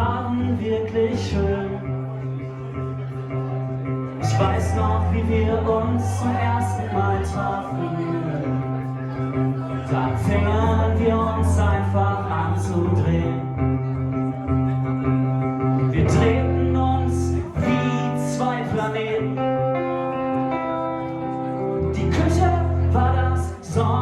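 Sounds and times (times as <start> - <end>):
pop song with plucked guitar: 0.0 - 24.0.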